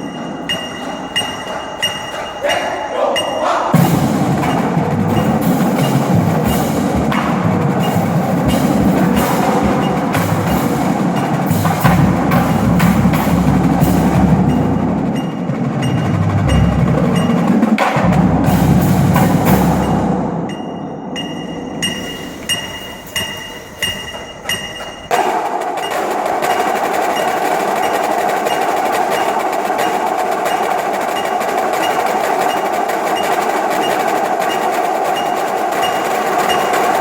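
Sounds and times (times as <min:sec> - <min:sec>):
marching drumline playing: 0:00.0 - 0:20.6, 0:21.2 - 0:37.0.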